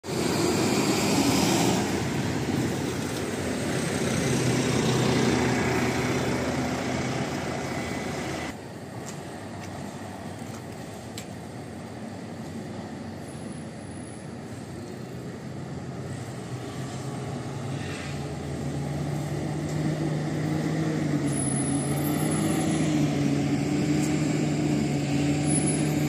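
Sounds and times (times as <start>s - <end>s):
bus diesel engine pulling away: 0.0s - 8.6s, 12.6s - 26.0s
distant street traffic: 0.0s - 26.0s.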